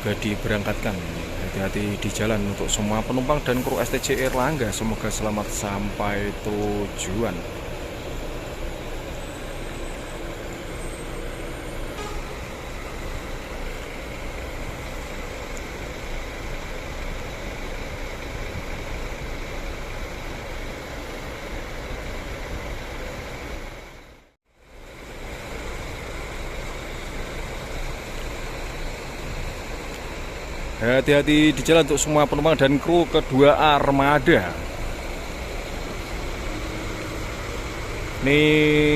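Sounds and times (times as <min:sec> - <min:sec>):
diesel buses running: 0:00.0 - 0:38.9
road traffic rumble: 0:00.0 - 0:38.9.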